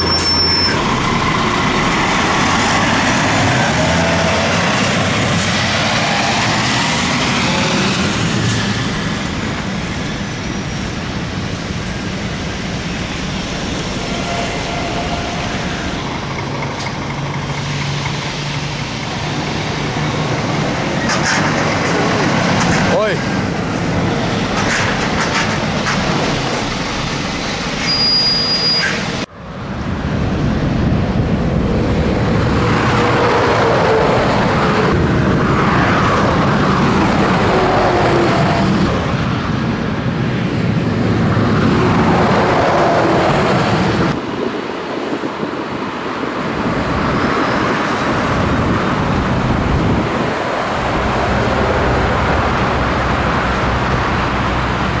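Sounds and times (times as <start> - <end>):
tyre and road rumble: 0.0 - 55.0.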